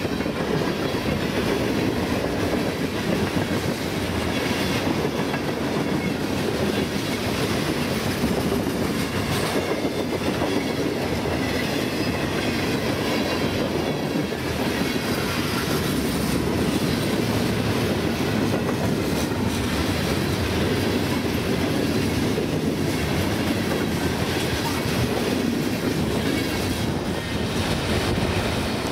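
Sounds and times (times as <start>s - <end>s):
clickety-clack over rail joints: 0.0s - 28.9s
train wheels rumbling on rail: 0.0s - 28.9s.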